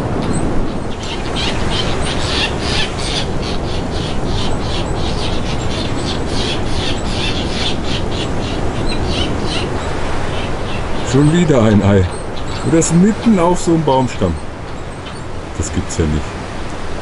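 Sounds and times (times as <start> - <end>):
birds chirping: 0.0 - 17.0
low rushing background noise: 0.0 - 17.0.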